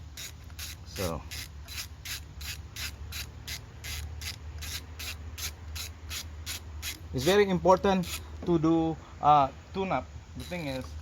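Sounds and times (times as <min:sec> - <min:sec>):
ratchet wrench clicking: 0:00.0 - 0:08.3, 0:10.4 - 0:11.0.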